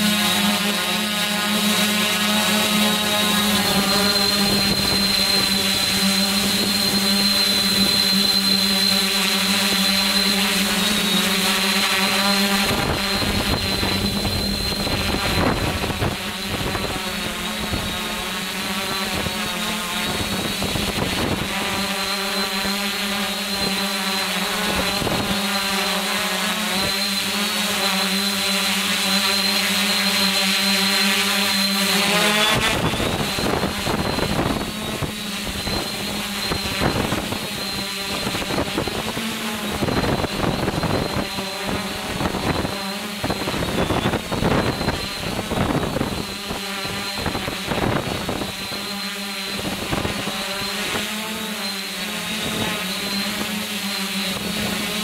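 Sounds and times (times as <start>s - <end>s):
drone motors buzzing: 0.0s - 55.0s.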